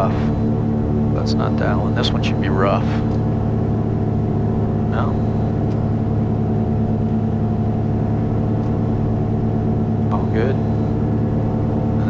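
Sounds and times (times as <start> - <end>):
aircraft piston engines running: 0.0 - 12.0.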